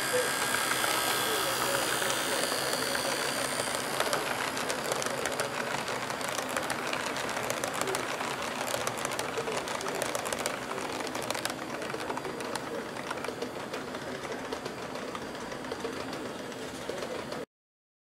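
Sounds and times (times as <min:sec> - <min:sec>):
model train rolling: 0:00.0 - 0:17.4
model train wheels clicking: 0:00.0 - 0:17.4.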